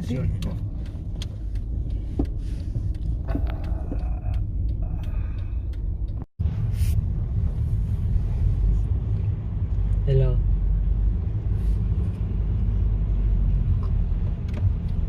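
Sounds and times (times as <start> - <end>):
car driving low rumble: 0.0 - 15.0.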